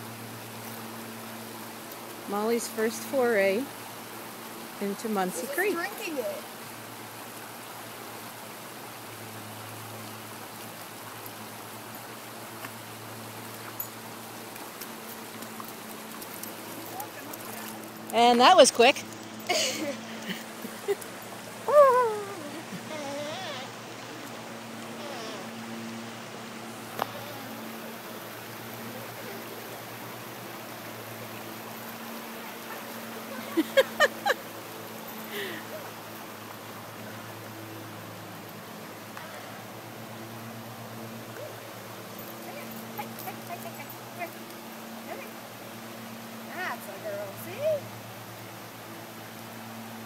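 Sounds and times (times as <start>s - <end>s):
creek water running over rocks: 0.0s - 50.0s.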